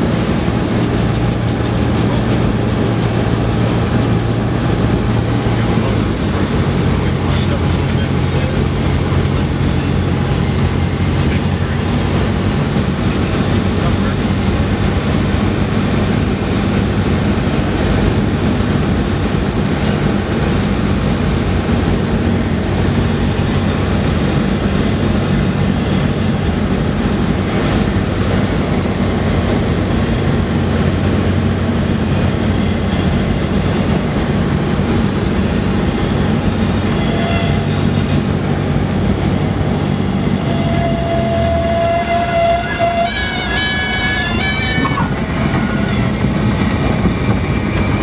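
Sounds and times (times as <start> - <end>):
rushing airflow: 0.0 - 37.0, 37.6 - 48.0
plane engine and propeller: 0.0 - 48.0.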